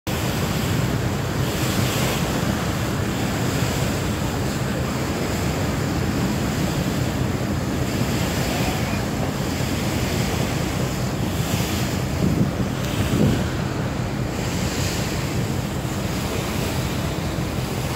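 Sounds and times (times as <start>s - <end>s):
choppy river water rushing: 0.1s - 17.9s
wind buffeting the microphone: 0.1s - 17.9s.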